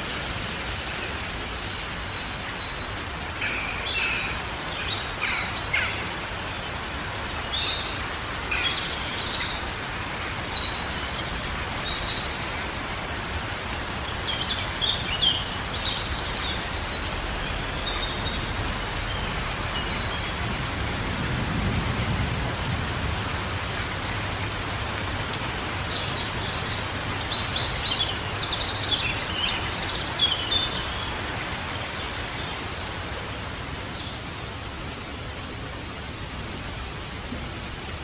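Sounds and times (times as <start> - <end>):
light rain: 0.0 - 38.0.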